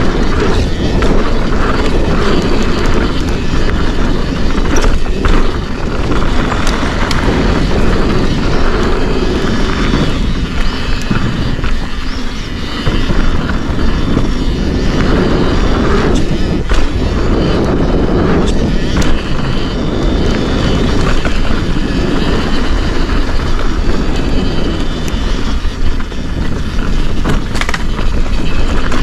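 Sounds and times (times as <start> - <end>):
bike rattling clicks and knocks: 0.0 - 29.0
tyres rumbling on dirt: 0.0 - 29.0
wind buffeting microphone: 0.0 - 29.0.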